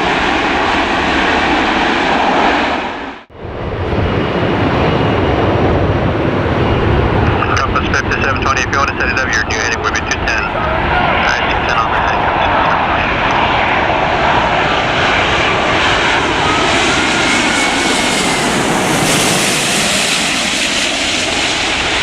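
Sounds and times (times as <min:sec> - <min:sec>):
airliner jet engines passing: 0:00.0 - 0:22.0
faint engine whine: 0:03.4 - 0:22.0.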